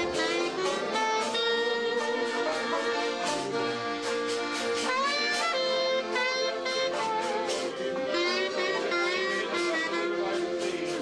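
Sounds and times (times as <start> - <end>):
acoustic guitar strumming: 0.0 - 11.0
button accordion melody: 0.0 - 11.0.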